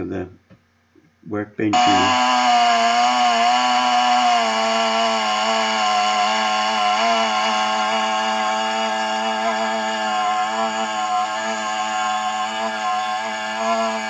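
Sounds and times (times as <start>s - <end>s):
chainsaw cutting log: 1.8s - 14.0s.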